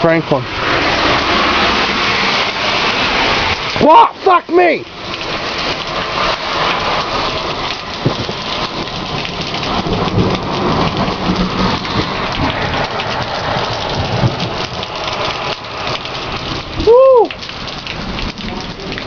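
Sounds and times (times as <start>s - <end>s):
thunder rumbling: 0.0s - 4.0s, 4.9s - 19.0s
heavy rain pouring: 0.0s - 19.0s.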